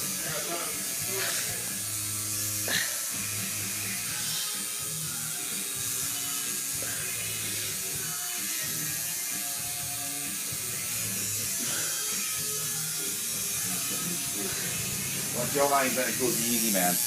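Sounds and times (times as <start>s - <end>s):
background music with bass: 0.0s - 16.7s
electric clippers buzzing: 0.0s - 17.0s.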